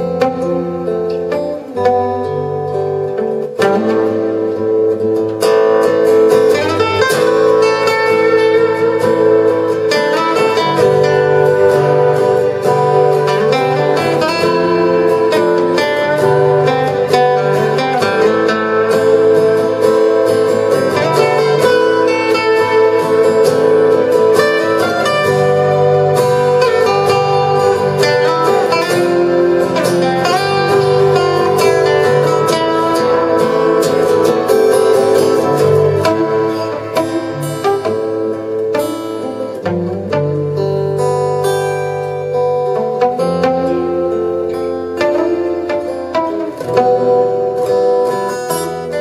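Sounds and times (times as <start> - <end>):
acoustic guitars playing: 0.0 - 49.0.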